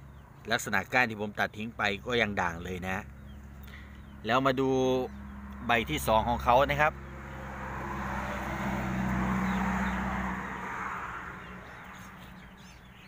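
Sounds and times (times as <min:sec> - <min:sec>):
vehicle passing by: 0:02.5 - 0:13.0.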